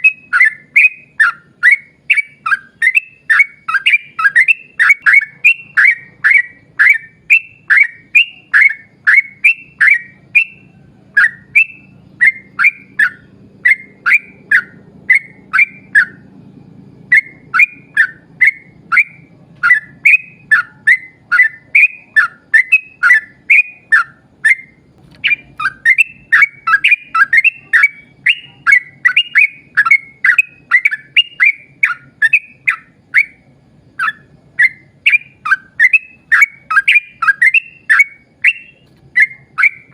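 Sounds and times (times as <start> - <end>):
bird whistling rapid notes: 0.0 - 16.3, 17.0 - 39.9.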